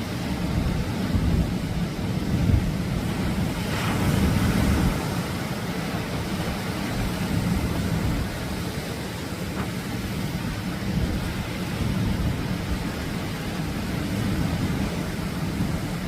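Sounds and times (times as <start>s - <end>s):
surf washing on shore: 0.0s - 16.0s
wind buffeting microphone: 0.0s - 16.0s.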